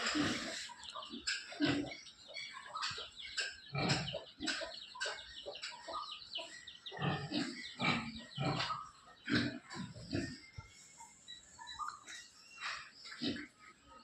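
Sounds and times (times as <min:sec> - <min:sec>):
pigs grunting and calling: 0:00.0 - 0:14.0.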